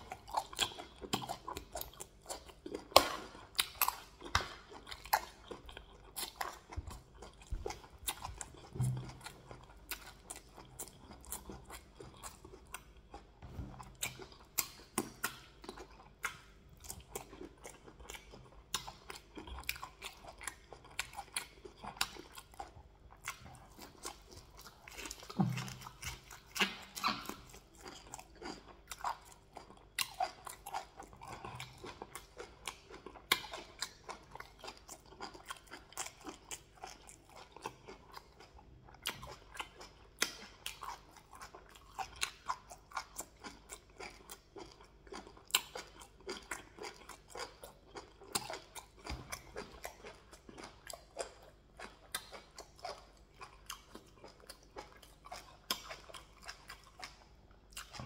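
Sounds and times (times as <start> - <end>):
man chewing and smacking: 0.0 - 58.0.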